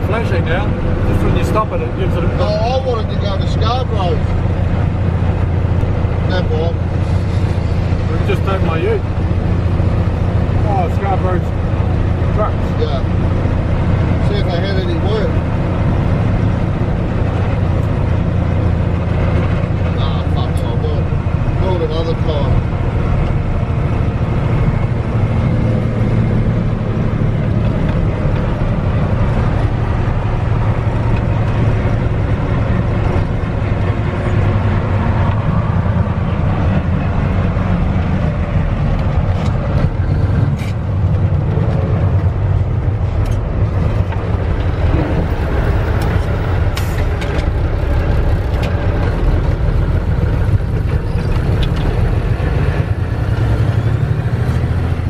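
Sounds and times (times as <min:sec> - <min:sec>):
road and cab noise: 0:00.0 - 0:55.0
truck diesel engine running: 0:00.0 - 0:55.0.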